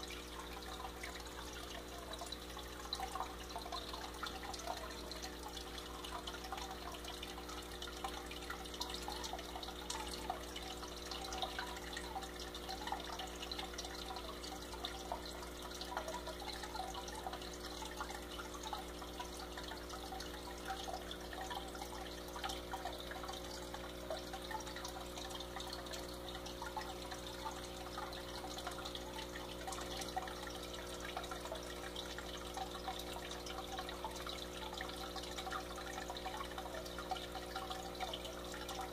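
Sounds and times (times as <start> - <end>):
aquarium equipment hum: 0.0 - 38.9
water trickling and bubbling: 0.0 - 38.9.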